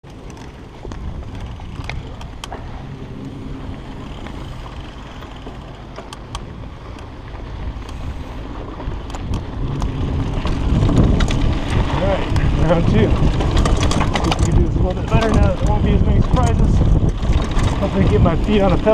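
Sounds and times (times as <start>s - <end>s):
bike clicks and rattles: 0.0s - 18.9s
bike tyre noise on dirt: 0.0s - 18.9s
wind rumbling on microphone: 0.0s - 18.9s.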